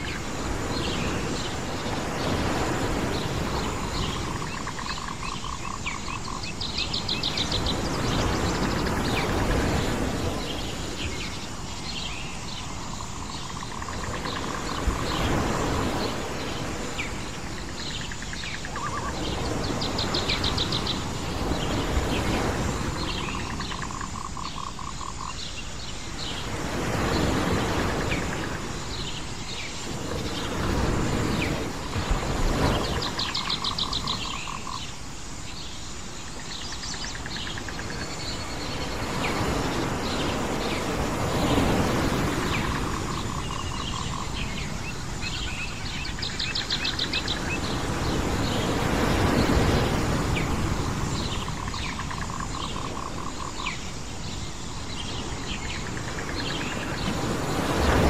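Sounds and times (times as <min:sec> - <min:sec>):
birds chirping: 0:00.0 - 0:58.0
surf washing in and out: 0:00.0 - 0:58.0.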